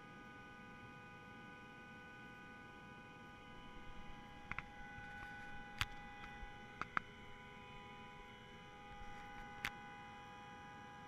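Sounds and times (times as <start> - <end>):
faint high-pitched hum: 0.0 - 11.0.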